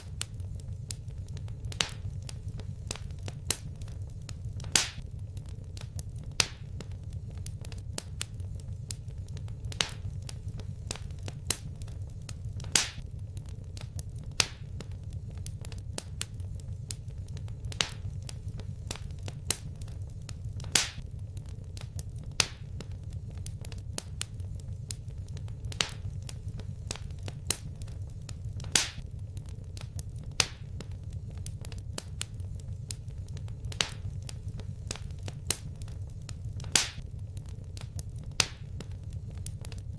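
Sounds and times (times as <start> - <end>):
crackling pops of fire: 0.0 - 39.9
wood fire burning: 0.0 - 39.9.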